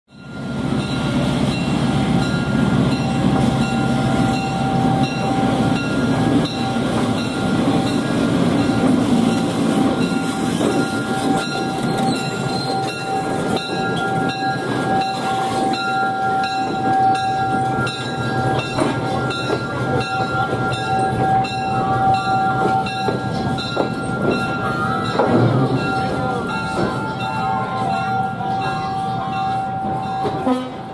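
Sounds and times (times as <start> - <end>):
diesel locomotive engine rumble: 0.1 - 30.9
steel wheels rolling on rails: 0.1 - 30.9.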